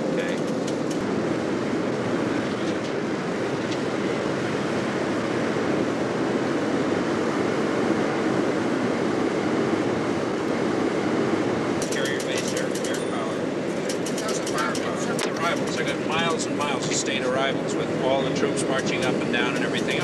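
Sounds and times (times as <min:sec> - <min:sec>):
aircraft cabin rushing noise: 0:00.0 - 0:20.0.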